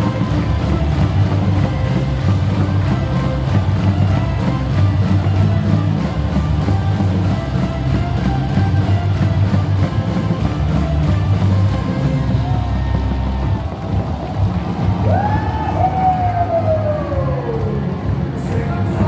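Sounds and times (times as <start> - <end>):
pulsing bass beat: 0.0 - 19.0
rock music over loudspeakers: 0.0 - 19.0.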